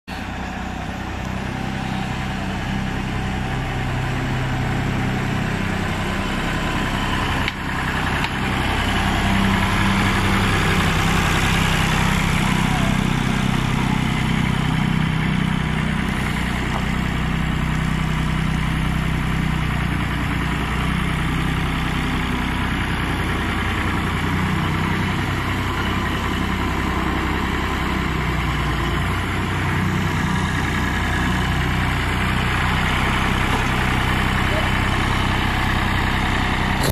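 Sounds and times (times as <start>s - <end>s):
tractor engine idling: 0.1s - 36.9s.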